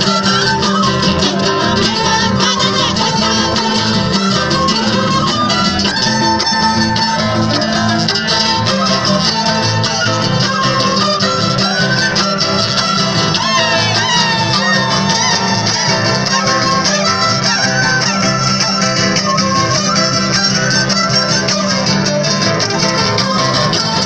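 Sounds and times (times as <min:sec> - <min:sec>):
acoustic guitar: 0:00.0 - 0:24.0
band music over loudspeakers: 0:00.0 - 0:24.0.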